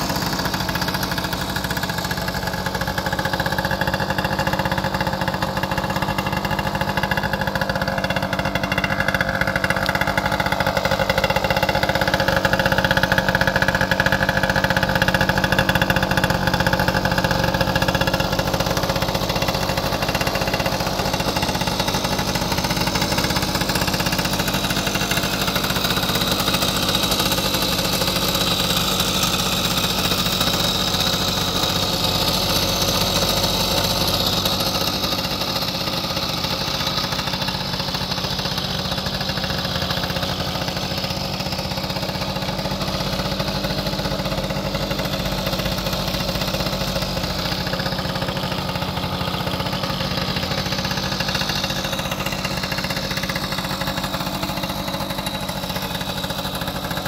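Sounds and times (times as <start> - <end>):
moped engine idling: 0.0 - 57.0.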